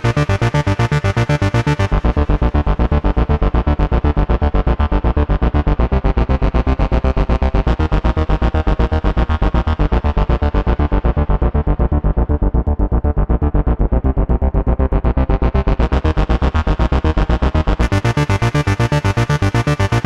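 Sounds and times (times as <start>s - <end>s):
synthesizer pulsing bass notes: 0.0s - 20.0s.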